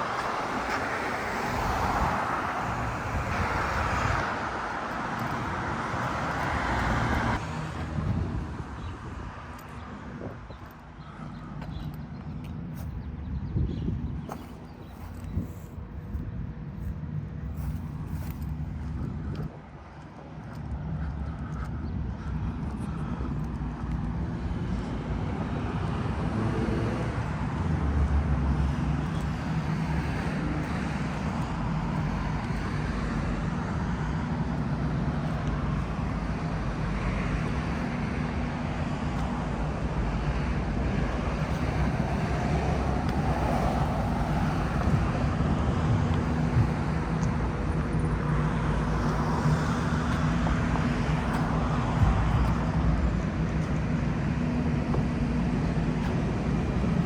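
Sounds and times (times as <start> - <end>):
road noise: 0.0 - 57.0
vehicle engines humming: 0.0 - 57.0.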